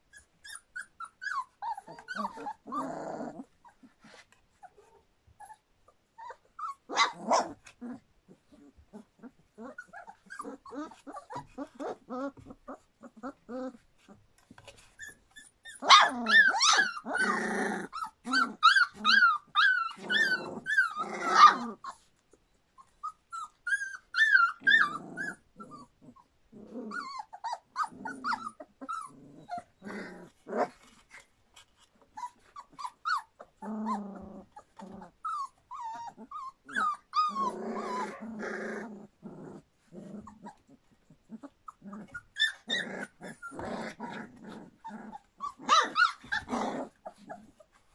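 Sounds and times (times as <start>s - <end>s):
puppies squealing and whimpering: 0.0s - 22.1s, 22.8s - 47.9s
puppies growling: 0.0s - 47.9s.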